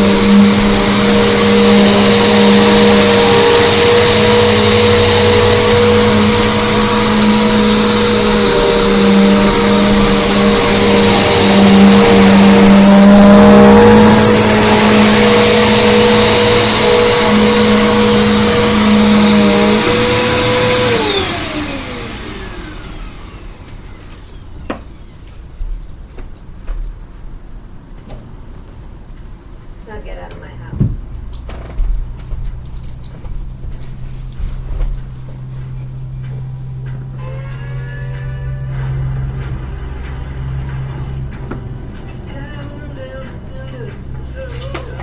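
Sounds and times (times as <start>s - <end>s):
upright vacuum running: 0.0s - 25.1s, 29.9s - 45.0s.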